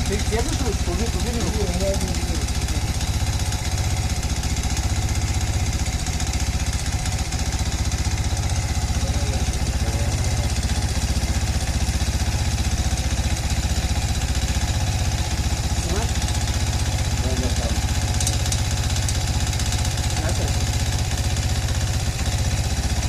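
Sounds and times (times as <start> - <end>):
engine idling: 0.0 - 23.0
metallic engine knock: 0.0 - 23.0.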